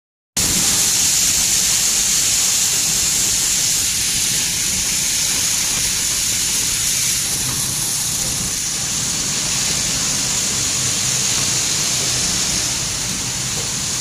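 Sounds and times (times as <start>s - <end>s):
machinery hissing: 0.4s - 14.0s.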